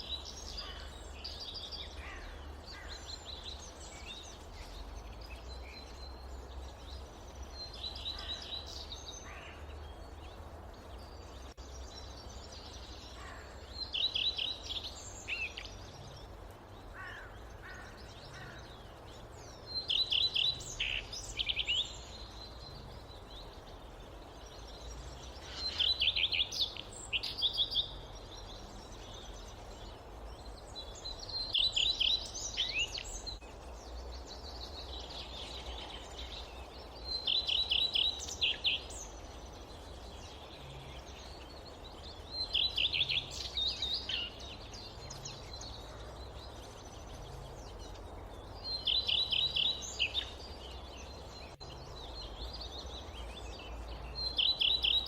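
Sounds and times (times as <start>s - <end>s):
forest ambience hiss: 0.0s - 55.0s.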